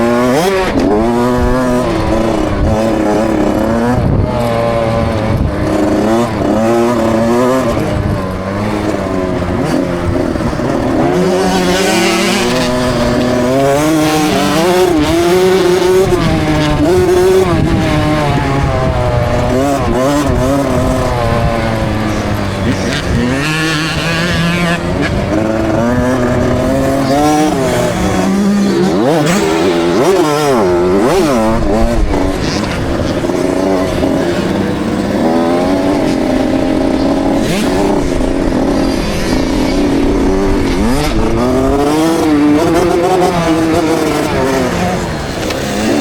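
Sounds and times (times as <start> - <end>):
motocross engine revving: 0.0 - 46.0.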